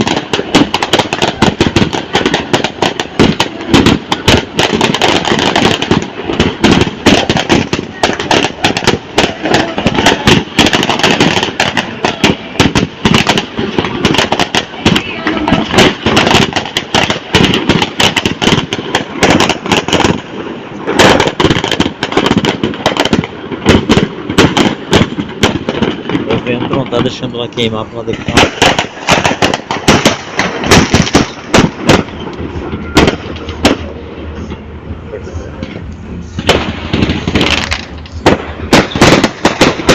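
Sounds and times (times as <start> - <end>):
bonfire crackling and popping: 0.0 - 34.0, 36.4 - 39.9
low rumble of fire: 0.0 - 39.9.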